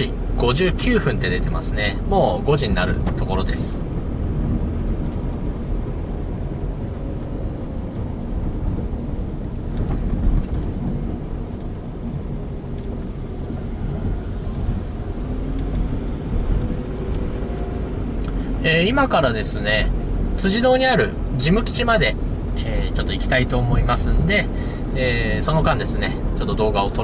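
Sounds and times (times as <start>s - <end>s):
car interior road and engine rumble: 0.0s - 27.0s.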